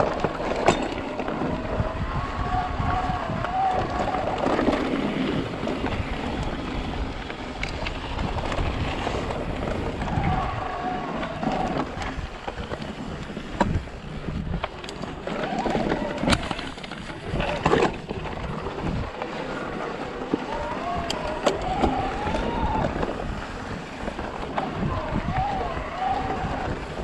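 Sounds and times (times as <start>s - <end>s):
bike rattling over rock: 0.0s - 27.0s
wind on microphone: 0.0s - 27.0s.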